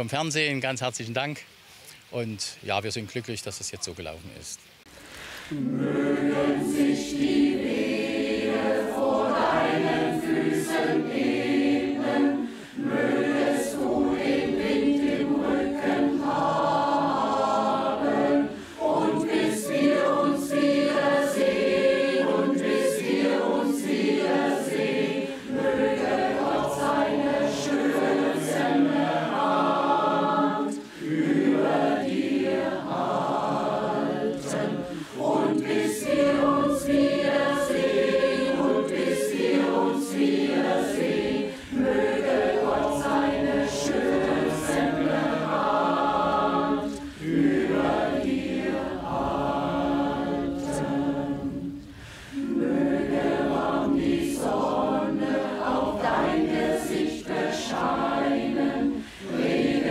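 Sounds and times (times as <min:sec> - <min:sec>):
mixed choir singing: 0:05.5 - 0:59.9.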